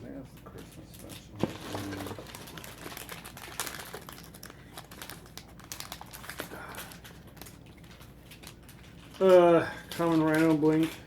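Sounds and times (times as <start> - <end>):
packs crinkling and tearing: 0.1 - 11.0.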